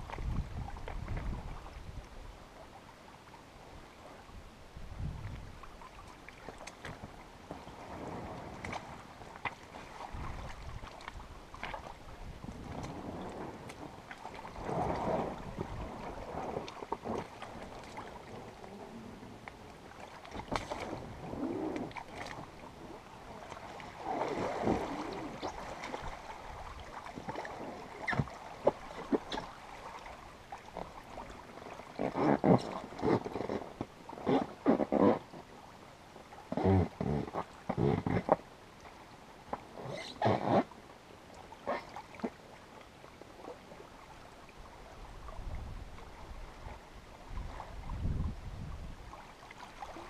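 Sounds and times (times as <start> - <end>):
inflatable hull sloshing and scraping: 0.0 - 50.0
paddle splashes: 0.0 - 50.0.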